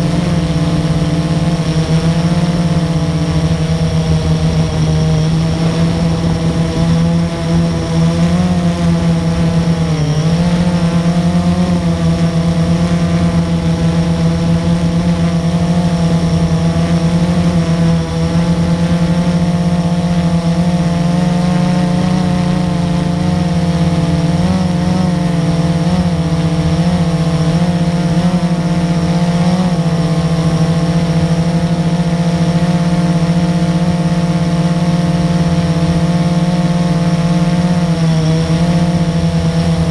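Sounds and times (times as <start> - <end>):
drone motors and propellers: 0.0 - 39.9.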